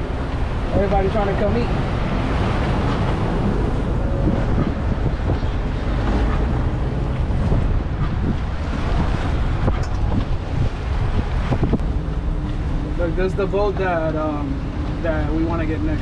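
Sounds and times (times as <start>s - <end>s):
outboard motors running: 0.0s - 16.0s
water rushing past hull: 0.0s - 16.0s
wind buffeting microphone: 0.0s - 16.0s.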